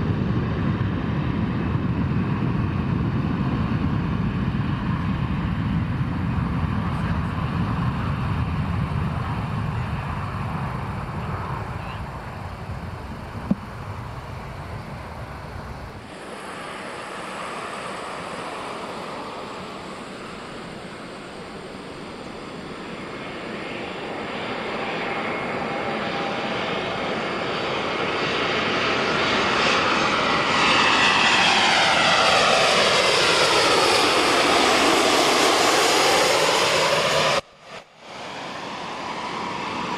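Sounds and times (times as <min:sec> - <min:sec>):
airplane engine passing overhead: 0:00.0 - 0:39.9.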